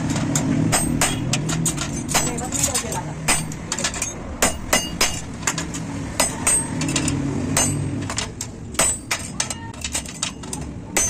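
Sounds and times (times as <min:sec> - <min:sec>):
hammer striking metal: 0:00.0 - 0:11.0.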